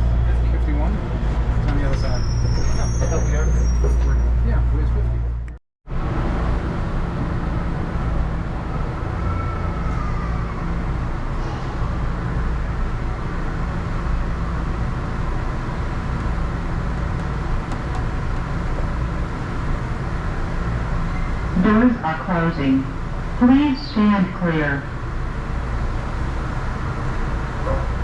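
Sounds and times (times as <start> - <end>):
train hum and rumble: 0.0 - 28.0.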